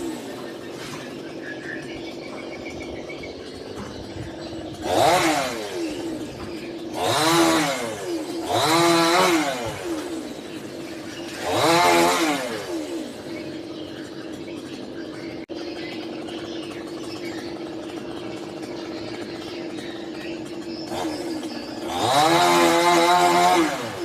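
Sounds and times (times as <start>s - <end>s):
chainsaw idling and revving: 0.0s - 24.0s.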